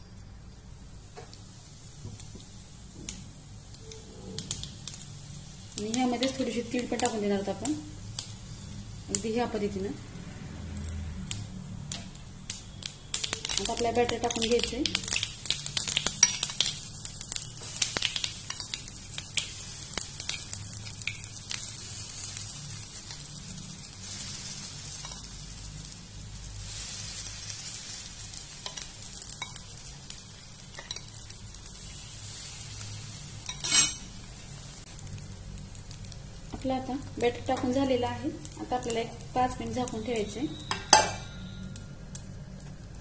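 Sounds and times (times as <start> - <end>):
batter sizzling in hot pan: 0.0 - 43.0.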